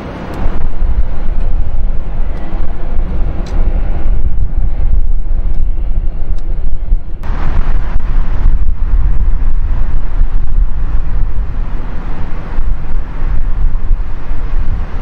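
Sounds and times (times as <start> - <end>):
jet engine rumble: 0.0 - 15.0
wind buffeting microphone: 0.0 - 15.0.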